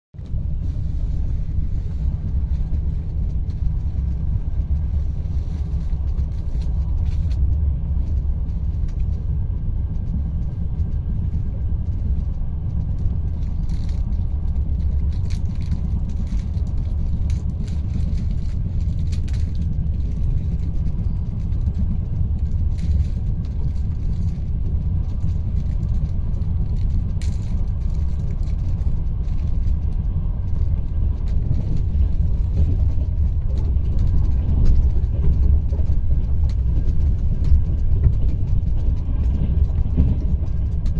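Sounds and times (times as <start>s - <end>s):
train rumble: 0.1s - 40.9s.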